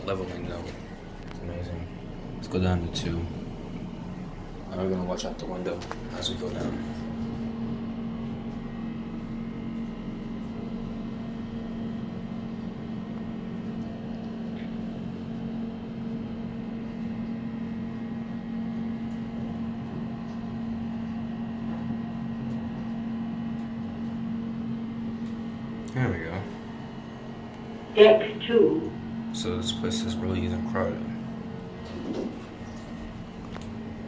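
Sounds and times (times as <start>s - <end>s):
elevator mechanical hum: 0.0s - 34.0s.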